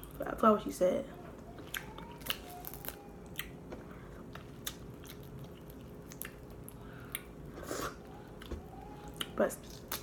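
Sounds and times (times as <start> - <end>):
quiet chewing: 1.6 - 10.0.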